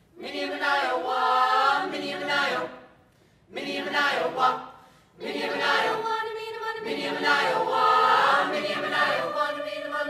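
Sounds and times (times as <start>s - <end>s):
mixed choir singing unaccompanied: 0.1s - 10.0s.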